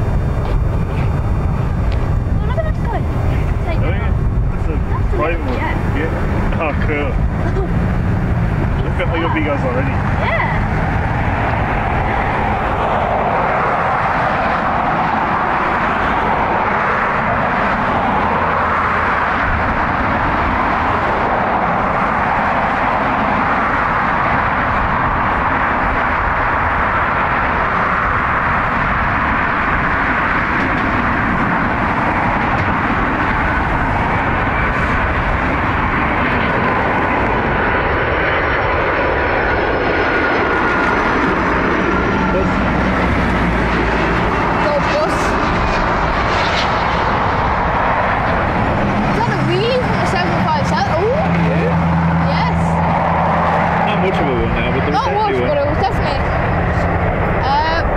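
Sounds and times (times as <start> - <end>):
high engine whine: 0.0 - 57.9
jet engines on approach: 0.0 - 57.9.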